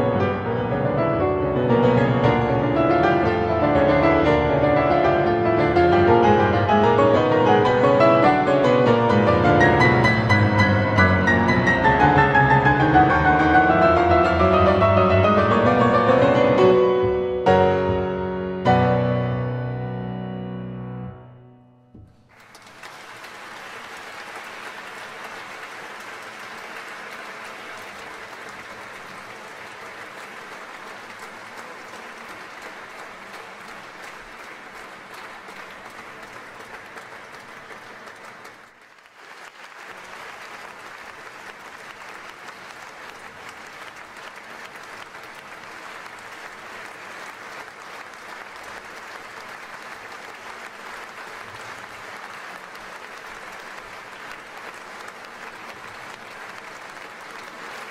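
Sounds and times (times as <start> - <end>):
audience applauding: 0.0 - 16.9, 22.0 - 57.9.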